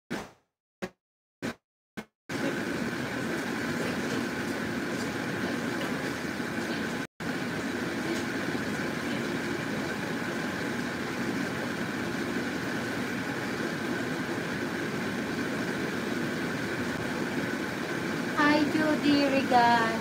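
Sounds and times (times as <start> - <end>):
broth bubbling at a rolling boil: 2.3 - 20.0.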